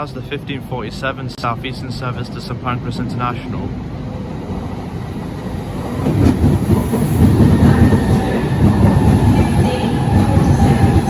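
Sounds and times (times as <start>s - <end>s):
train wheels rumbling on rail: 1.4s - 11.0s.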